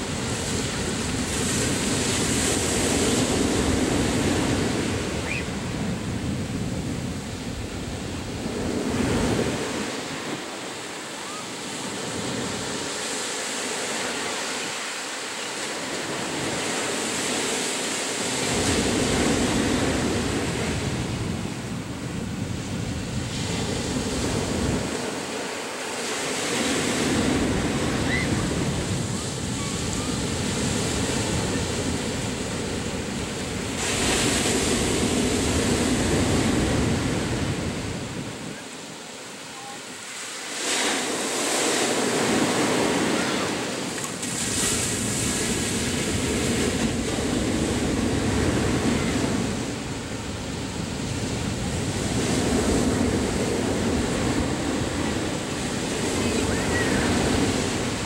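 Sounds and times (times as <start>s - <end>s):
wind on microphone: 0.0s - 14.8s, 15.7s - 38.9s, 40.5s - 58.0s
ocean waves breaking on beach: 0.0s - 58.0s.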